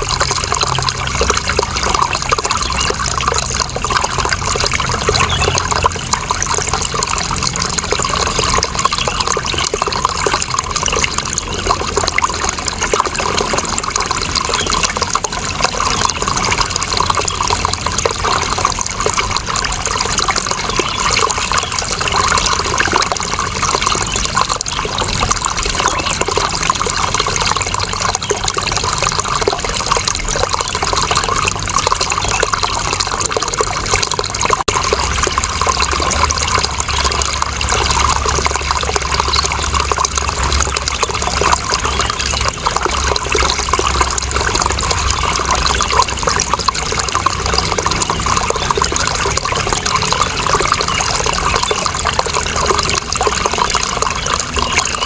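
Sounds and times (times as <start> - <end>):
water trickling: 0.0 - 55.0.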